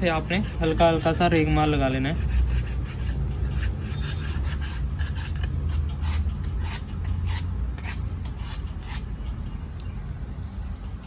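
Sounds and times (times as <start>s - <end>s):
sandpaper rubbing brake lining: 0.0s - 9.1s.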